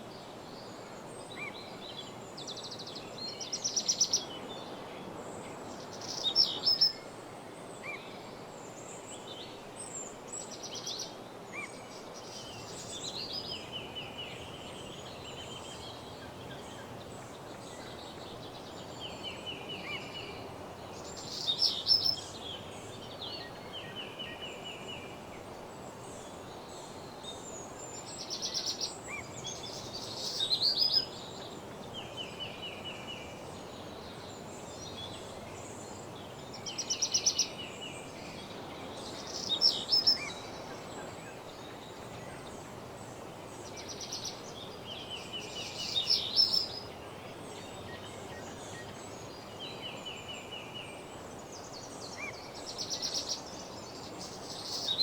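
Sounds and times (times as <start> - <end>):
songbirds singing: 0.0 - 55.0
steady background hiss: 0.0 - 55.0.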